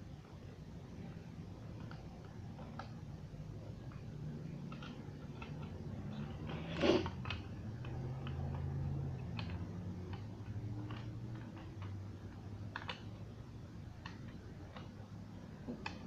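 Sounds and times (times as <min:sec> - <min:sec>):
low steady hum: 0:00.0 - 0:16.0
small clicks and taps: 0:00.2 - 0:16.0.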